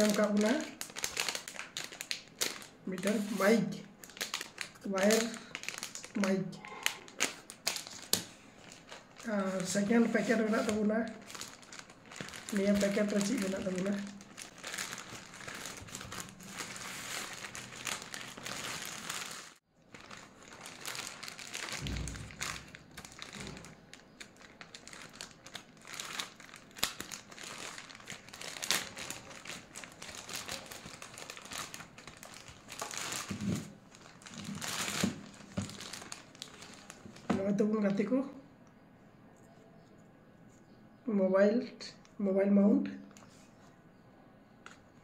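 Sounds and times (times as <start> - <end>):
plastic mailer crinkling: 0.0 - 37.6.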